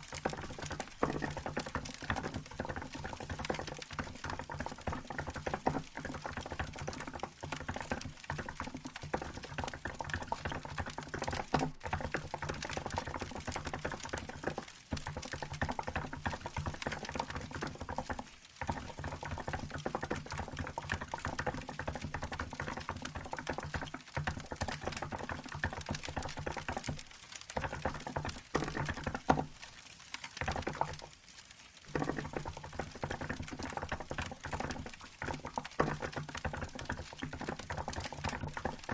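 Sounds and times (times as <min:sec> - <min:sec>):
fast typing on mechanical keyboard: 0:00.0 - 0:29.8, 0:31.9 - 0:38.9.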